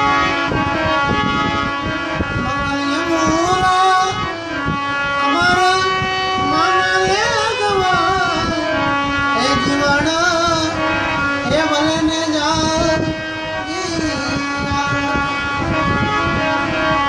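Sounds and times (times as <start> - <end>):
ornamented melody with gliding pitch: 0.0 - 17.0
steady held drone: 0.0 - 17.0.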